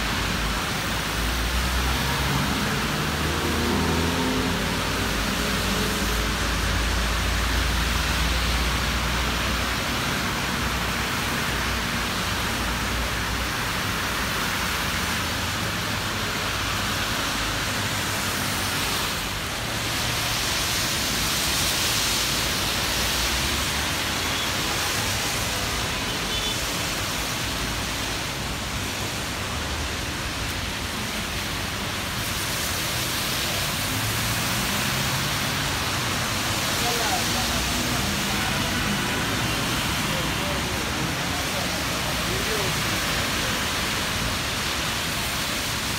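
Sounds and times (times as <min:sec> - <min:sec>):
car tyres on wet asphalt: 0:00.0 - 0:45.9
rain hissing: 0:00.0 - 0:45.9.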